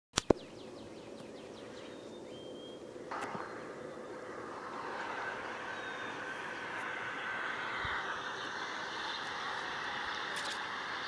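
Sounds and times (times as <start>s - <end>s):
droning noise from the sky: 0.2s - 11.0s
faint steady hum: 0.3s - 11.0s.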